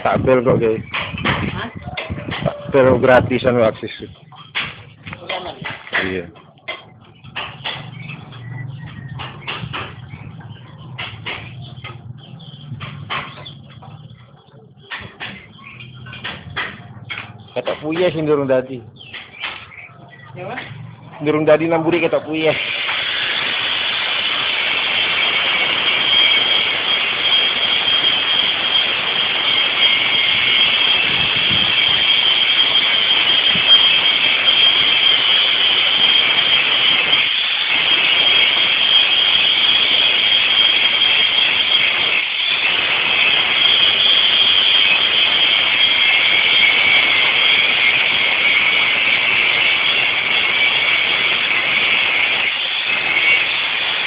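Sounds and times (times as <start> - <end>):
block press machine running: 2.3 - 19.9, 22.0 - 54.0.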